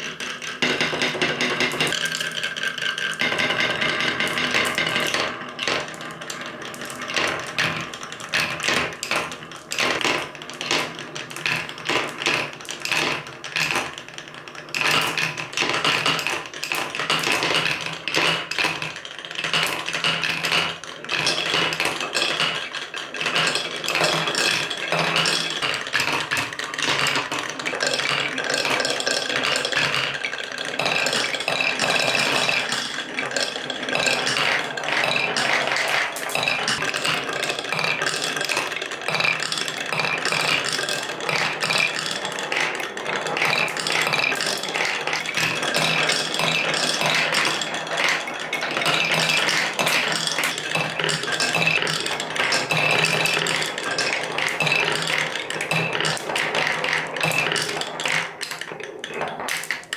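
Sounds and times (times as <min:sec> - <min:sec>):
marbles clacking: 0:00.0 - 0:59.9
marbles rolling on wooden tracks: 0:00.0 - 0:59.9.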